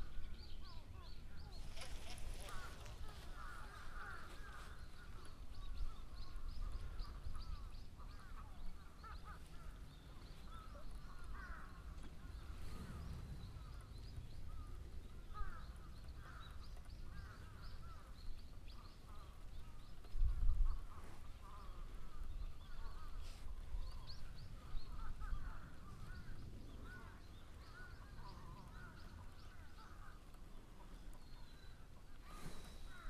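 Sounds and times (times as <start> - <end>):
birds calling: 0.0 - 33.0.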